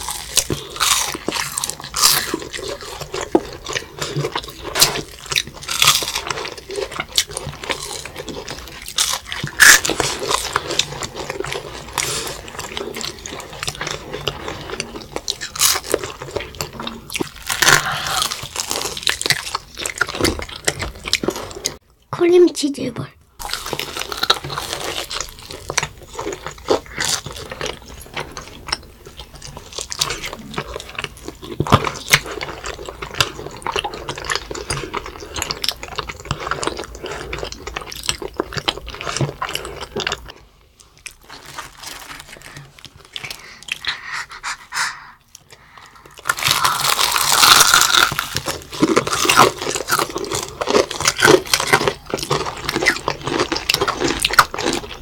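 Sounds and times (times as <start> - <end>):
crisp crunching of fried chicken: 0.0 - 21.8, 23.4 - 44.6, 45.3 - 55.0
soft chewing: 0.0 - 22.1, 23.4 - 55.0.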